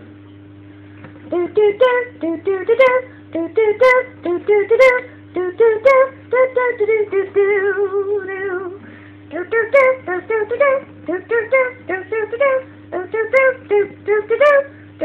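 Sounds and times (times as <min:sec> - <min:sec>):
steady hum: 0:00.0 - 0:15.0
high voice singing wordless syllables: 0:01.3 - 0:14.8.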